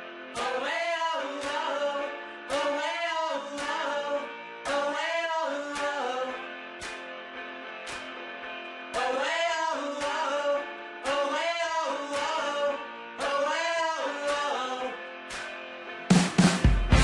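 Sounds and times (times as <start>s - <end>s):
song with guitar and singing: 0.0s - 17.0s.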